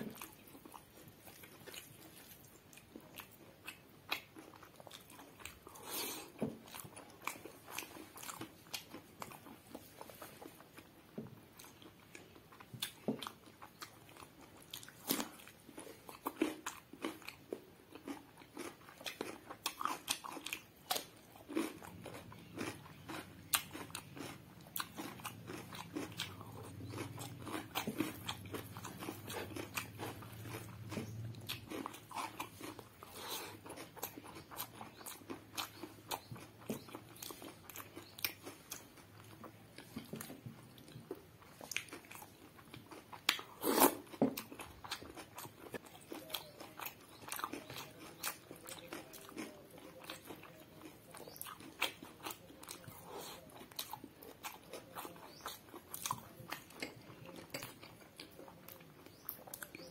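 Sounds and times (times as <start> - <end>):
crunching cucumber: 11.6 - 59.9.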